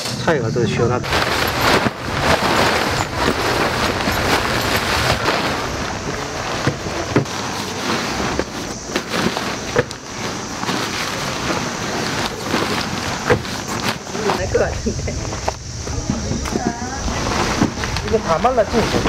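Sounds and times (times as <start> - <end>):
tent fabric rustling: 1.0 - 19.0.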